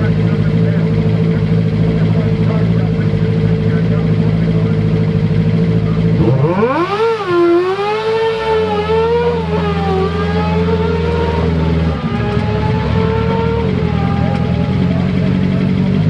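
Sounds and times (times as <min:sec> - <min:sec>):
small car engine revving: 0:00.0 - 0:16.0.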